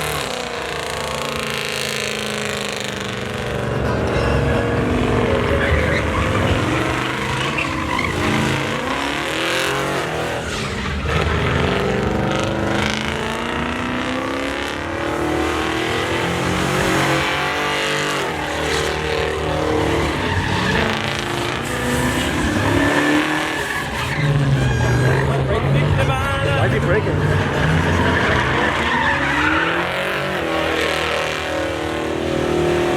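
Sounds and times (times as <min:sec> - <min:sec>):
truck engine revving: 0:00.0 - 0:32.9
tyres squealing on pavement: 0:00.0 - 0:32.9.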